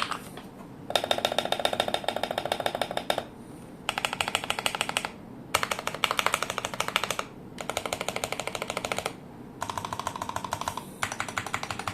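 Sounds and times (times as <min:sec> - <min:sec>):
low background noise: 0:00.0 - 0:11.9
fast mechanical keyboard typing: 0:00.9 - 0:03.3, 0:03.9 - 0:11.9.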